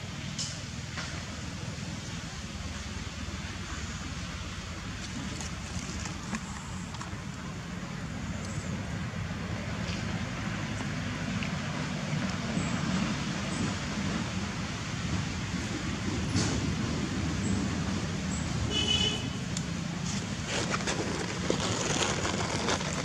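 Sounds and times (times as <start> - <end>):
low rumbling background noise: 0.0 - 23.0.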